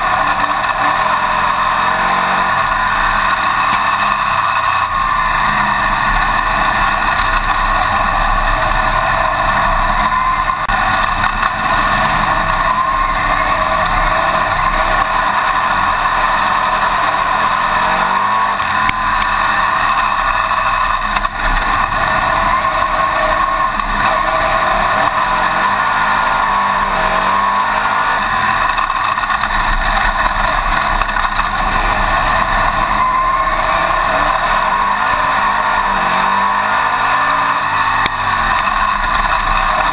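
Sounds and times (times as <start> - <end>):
racing engine running hard: 0.0 - 39.9.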